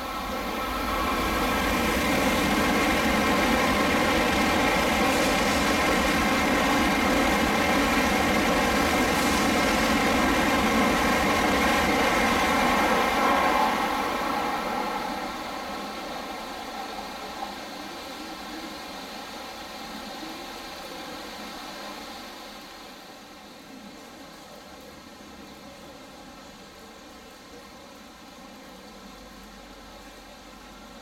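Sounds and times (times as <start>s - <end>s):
high-speed train passing: 0.0s - 26.9s.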